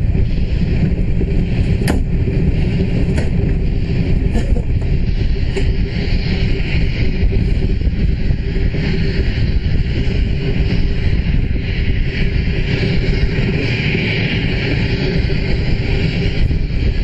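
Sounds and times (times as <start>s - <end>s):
train running rumble: 0.0s - 17.0s
wind on microphone: 0.0s - 17.0s.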